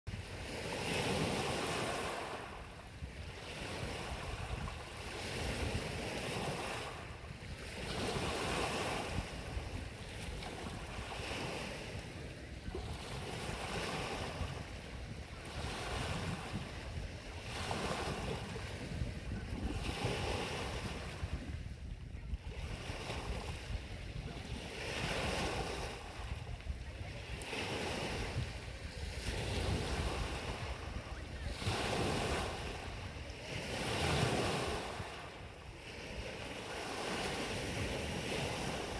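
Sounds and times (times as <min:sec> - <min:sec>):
lake waves washing ashore: 0:00.1 - 0:38.9
wind rumbling on microphone: 0:00.1 - 0:38.9.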